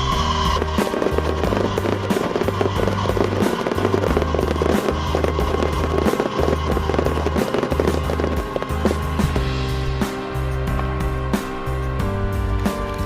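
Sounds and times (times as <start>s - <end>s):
firework bangs: 0.0s - 11.6s
fireworks crackling and popping: 0.0s - 13.0s
music with pulsing bass: 0.0s - 13.0s.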